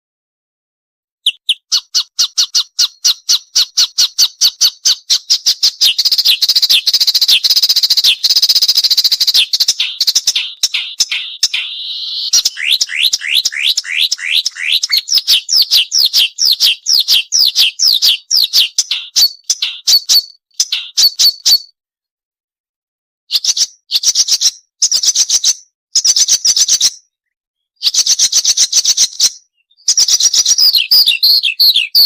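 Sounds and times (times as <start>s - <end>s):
small bird chirping: 1.2s - 21.7s, 23.3s - 32.0s.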